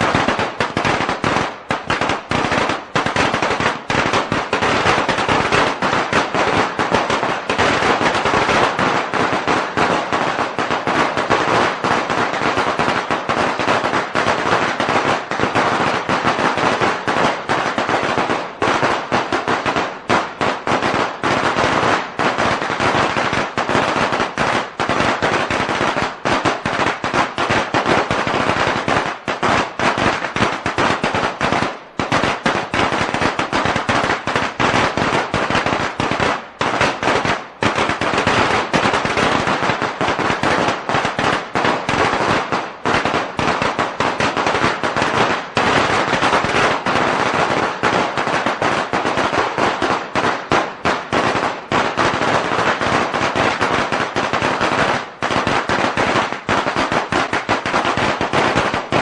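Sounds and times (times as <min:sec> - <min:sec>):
firecrackers rattling: 0:00.0 - 0:59.0.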